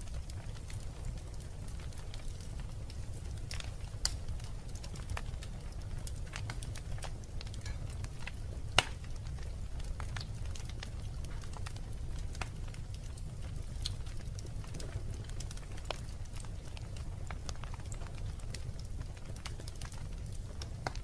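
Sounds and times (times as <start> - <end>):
fire rumbling in fireplace: 0.0 - 21.0
wood crackling and popping: 0.0 - 21.0.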